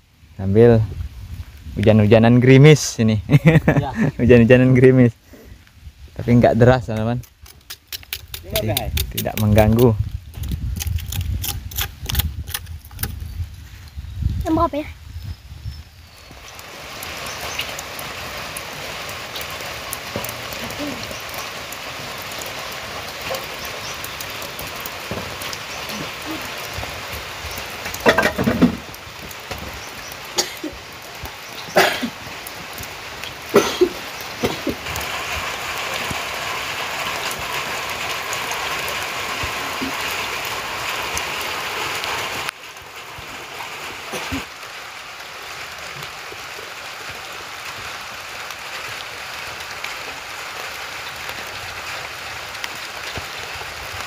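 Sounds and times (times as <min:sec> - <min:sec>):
drizzle hissing on wet ground: 0:00.0 - 0:10.6, 0:13.6 - 0:54.0.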